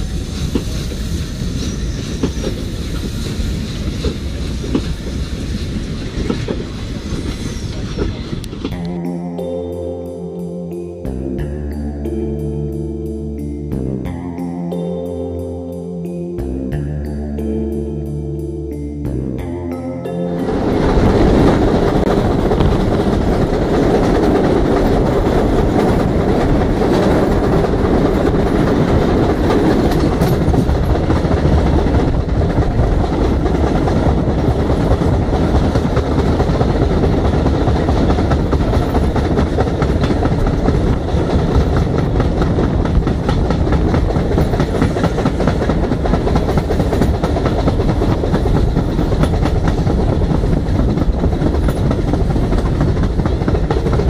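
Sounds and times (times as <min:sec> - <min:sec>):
train wheels rumbling on rails: 0:00.0 - 0:09.7, 0:19.8 - 0:54.0.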